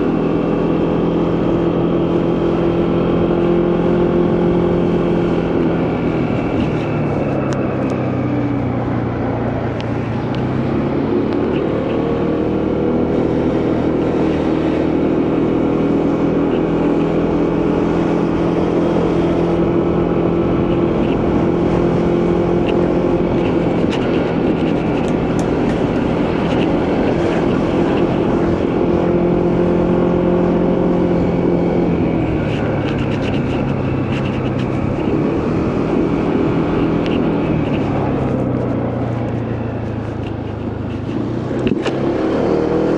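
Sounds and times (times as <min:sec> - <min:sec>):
motorcycle engine running: 0:00.0 - 0:42.9
road noise: 0:00.0 - 0:42.9
wind noise: 0:00.0 - 0:42.9.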